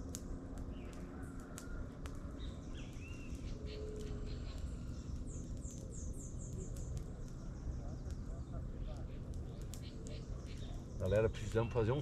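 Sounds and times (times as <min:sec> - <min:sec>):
birds calling: 0:02.3 - 0:12.0.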